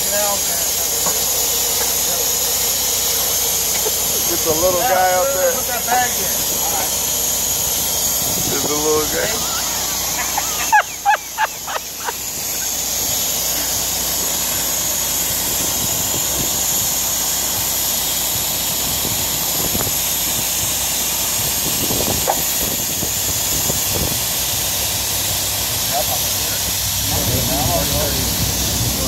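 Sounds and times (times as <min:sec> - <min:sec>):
compressed air hissing: 0:00.0 - 0:29.0.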